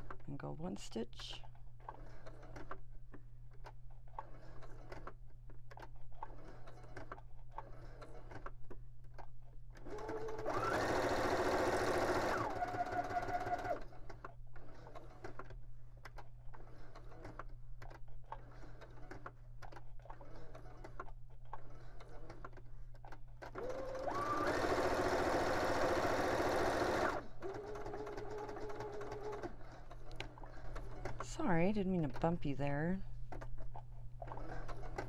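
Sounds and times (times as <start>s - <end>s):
sewing machine stitching: 1.8s - 2.8s, 4.1s - 8.6s, 9.8s - 32.3s, 33.3s - 35.0s.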